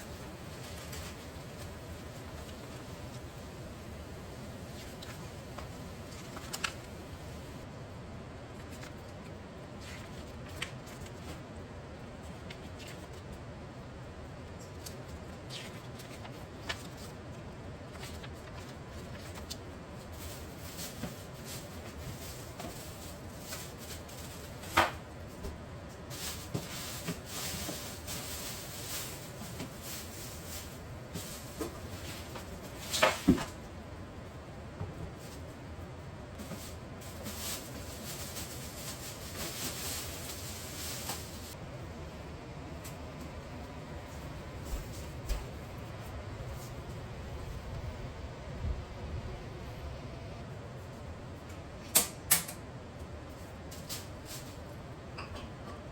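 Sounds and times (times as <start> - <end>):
air conditioner whirring: 0.0 - 55.9.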